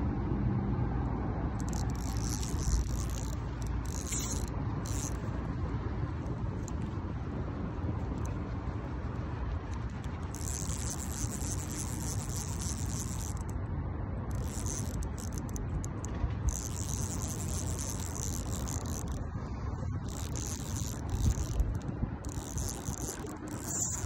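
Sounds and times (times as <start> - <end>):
fishing line and rod rustling: 1.5 - 13.6, 14.3 - 24.0.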